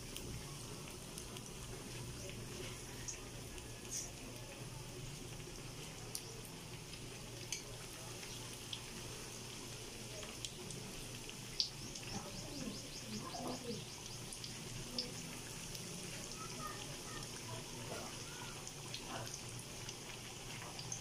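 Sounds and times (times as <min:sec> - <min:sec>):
oil sizzling with crackles: 0:00.0 - 0:21.0.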